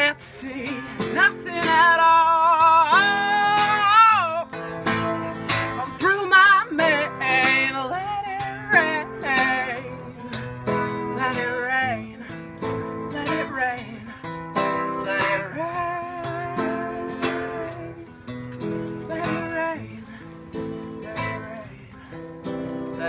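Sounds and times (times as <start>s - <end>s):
woman singing with vibrato: 0.0s - 18.1s, 19.0s - 20.0s
acoustic guitar strumming: 0.0s - 23.0s.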